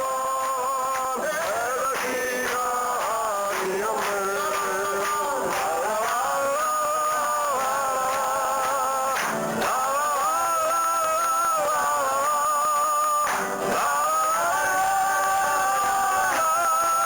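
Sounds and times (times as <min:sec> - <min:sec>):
person singing folk song: 0:00.0 - 0:17.0
rhythmic instrumental accompaniment: 0:00.0 - 0:17.0.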